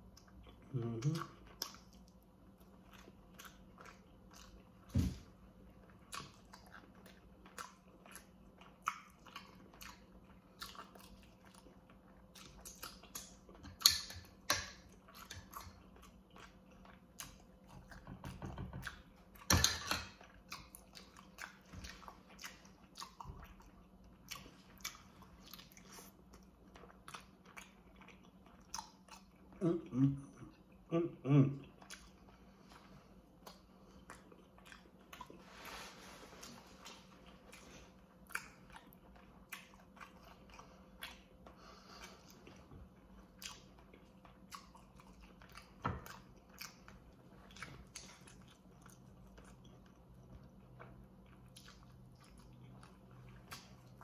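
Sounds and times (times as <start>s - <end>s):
man chewing and smacking: 0.0s - 30.9s, 31.6s - 54.0s.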